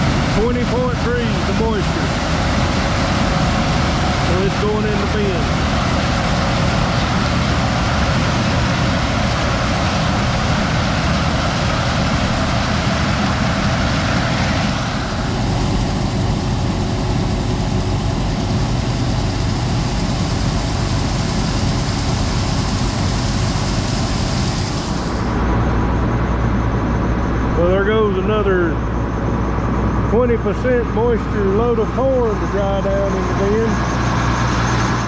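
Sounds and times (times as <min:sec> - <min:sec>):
broad rushing noise: 0:00.0 - 0:35.0
heavy vehicle engine running: 0:00.0 - 0:35.0.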